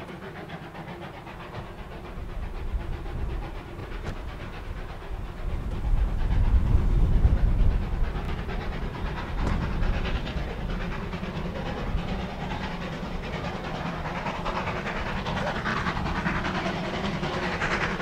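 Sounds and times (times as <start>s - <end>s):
steam train running: 0.0s - 18.0s.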